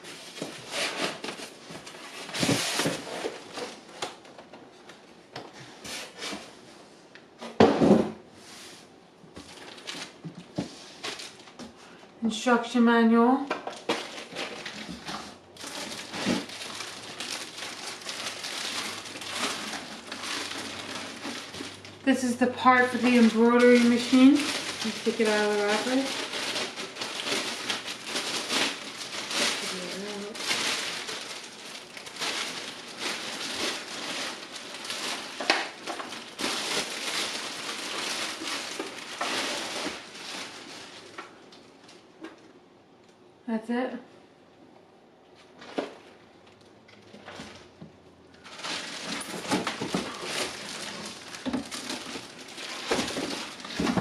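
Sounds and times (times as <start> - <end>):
packaging crinkling and rustling: 0.0 - 6.6, 9.3 - 12.0, 13.5 - 42.5, 45.4 - 54.0.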